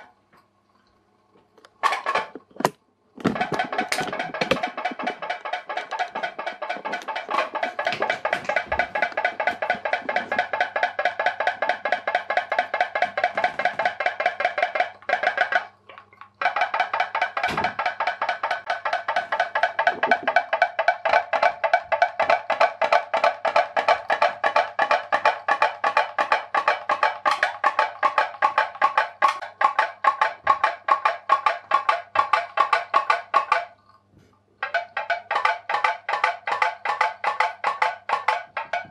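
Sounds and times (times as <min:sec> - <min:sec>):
pop-pop boat popping: 0:02.1 - 0:33.7.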